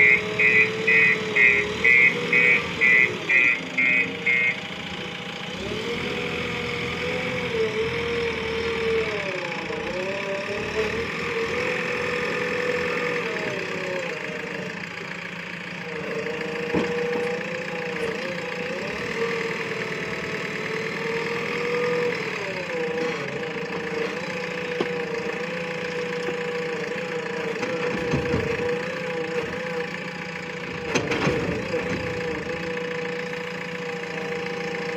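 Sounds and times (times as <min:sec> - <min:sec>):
diesel engine labouring under load: 0:00.0 - 0:34.9.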